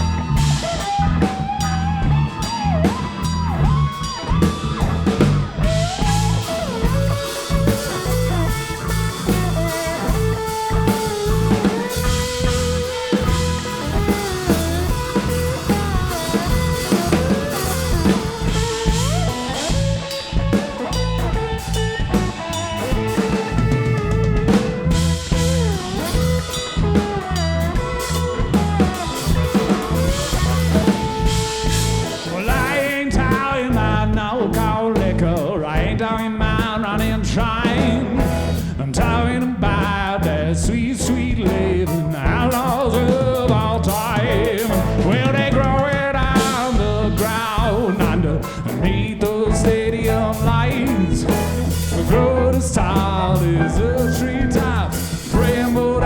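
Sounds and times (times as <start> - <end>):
heavy bass: 0.0 - 56.0
sliding bending lead guitar: 0.0 - 56.0
steady drum beat: 0.0 - 56.0.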